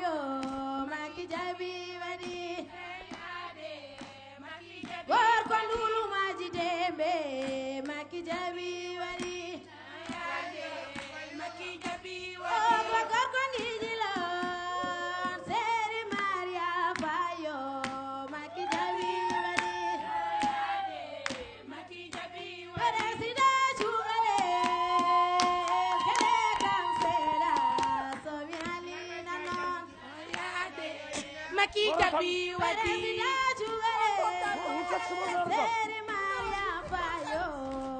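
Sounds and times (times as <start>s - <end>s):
woman singing: 0.0s - 10.6s, 11.4s - 37.9s.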